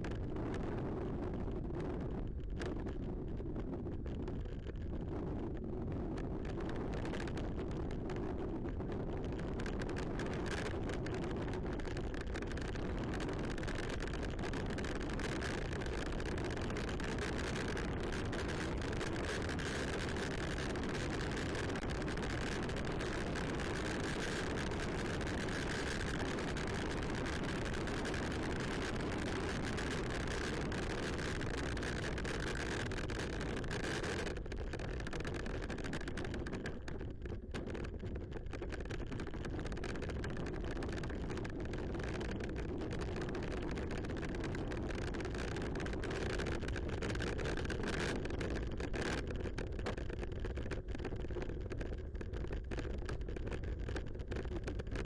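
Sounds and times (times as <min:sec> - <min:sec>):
wind rushing over microphone: 0:00.0 - 0:50.1
bicycle tyre rumble: 0:00.0 - 0:55.0.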